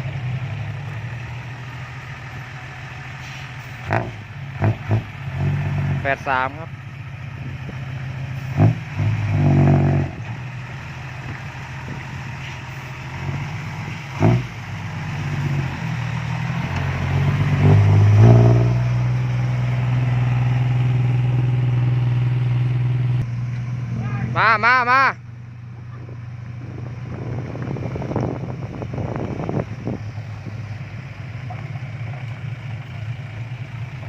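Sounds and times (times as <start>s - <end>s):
diesel engine revving: 0.0s - 34.0s.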